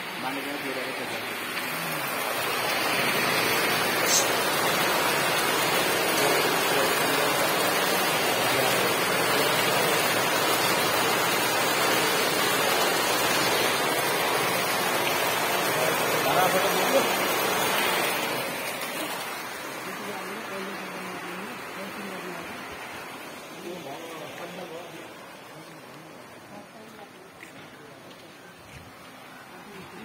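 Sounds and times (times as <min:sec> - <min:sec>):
water gushing into a tank: 0:00.0 - 0:25.5.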